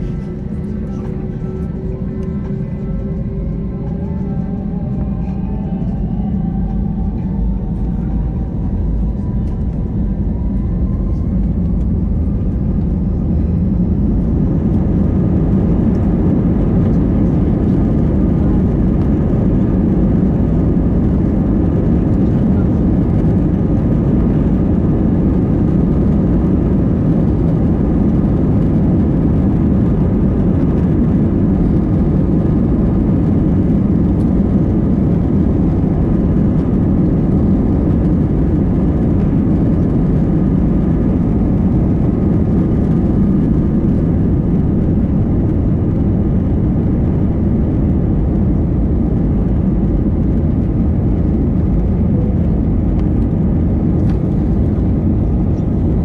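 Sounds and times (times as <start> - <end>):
faint engine whine: 0.0 - 56.0
jet engine and airflow roar: 0.0 - 56.0.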